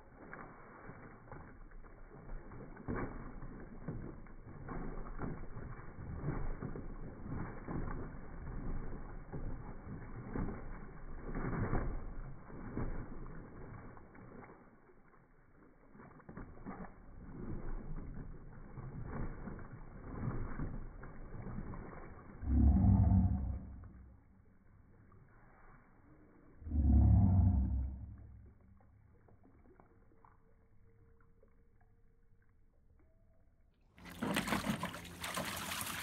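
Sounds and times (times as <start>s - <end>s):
dog splashing in water: 0.0s - 32.0s, 34.0s - 36.0s.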